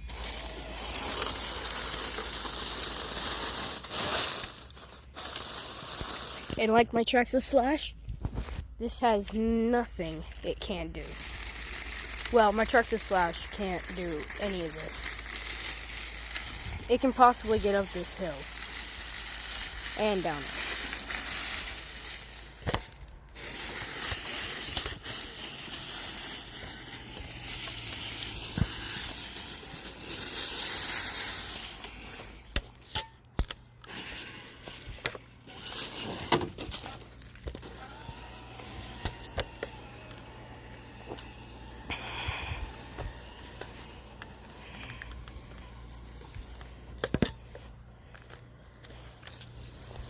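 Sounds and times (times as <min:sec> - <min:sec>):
rc car tyres crunching on dirt: 0:00.0 - 0:50.0.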